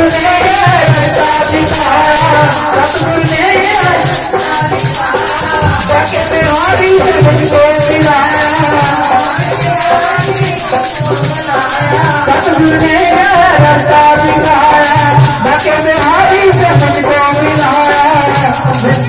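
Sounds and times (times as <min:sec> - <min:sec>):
drum beating: 0:00.0 - 0:19.0
hand percussion rattling: 0:00.0 - 0:19.0.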